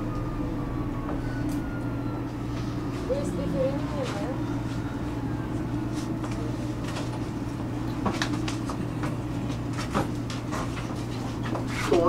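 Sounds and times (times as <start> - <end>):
train equipment humming: 0.0 - 12.0.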